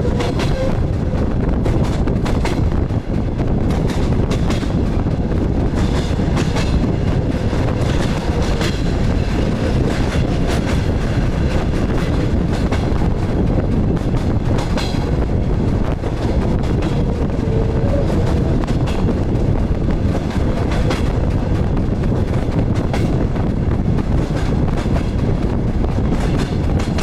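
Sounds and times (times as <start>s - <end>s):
diesel railcar rumble: 0.0s - 27.0s.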